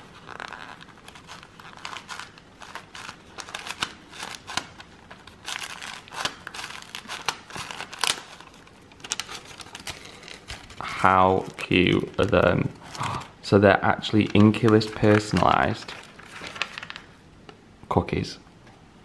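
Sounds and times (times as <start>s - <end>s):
paper and card rustling: 0.0s - 13.4s, 14.0s - 17.2s.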